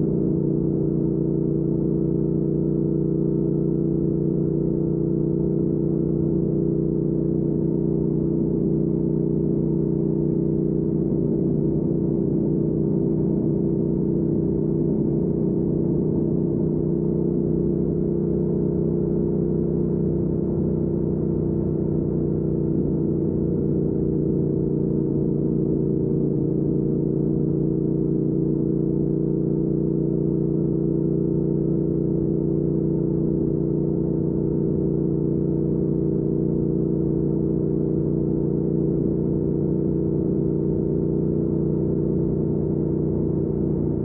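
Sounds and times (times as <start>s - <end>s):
motorcycle engine droning: 0.0s - 44.0s.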